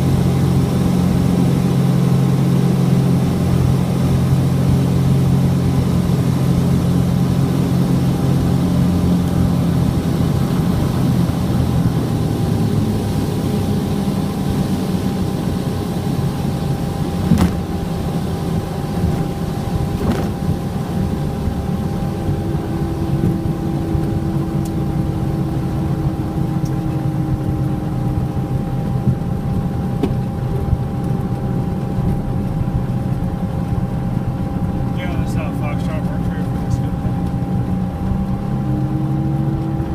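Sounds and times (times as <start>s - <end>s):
twin piston aircraft engines droning: 0.0s - 39.9s.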